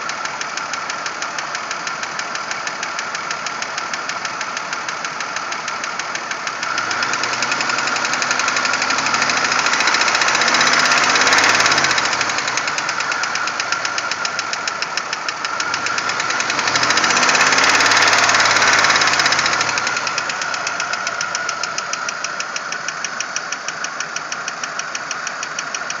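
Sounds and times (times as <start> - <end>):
rapid engine knocking: 0.0 - 26.0
car engine revving: 0.2 - 26.0.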